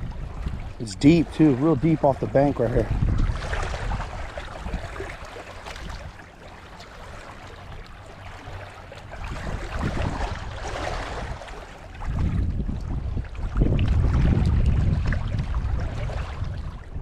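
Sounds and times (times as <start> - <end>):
wind buffeting microphone: 0.0 - 6.3, 8.5 - 17.0.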